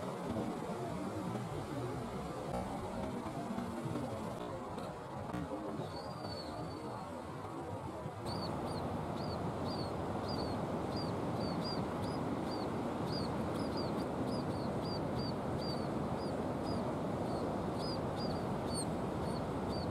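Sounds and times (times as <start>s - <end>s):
steady rushing noise: 0.0s - 19.9s.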